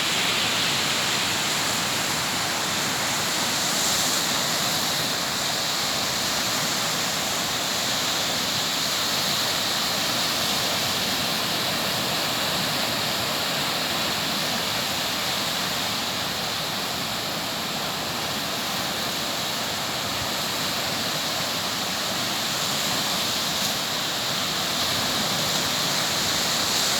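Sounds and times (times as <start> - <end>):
waves breaking on beach: 0.0 - 26.9.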